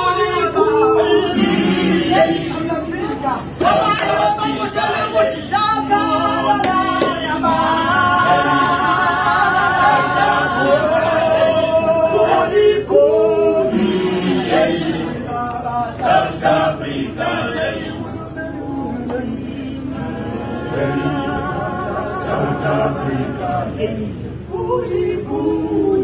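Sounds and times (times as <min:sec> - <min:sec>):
male choir singing a cappella: 0:00.0 - 0:26.0.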